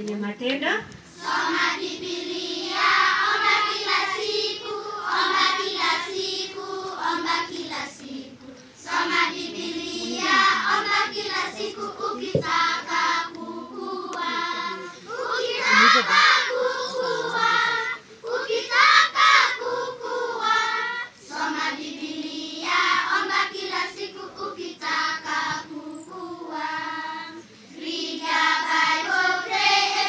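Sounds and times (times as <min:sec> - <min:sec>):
children singing: 0:01.2 - 0:30.0.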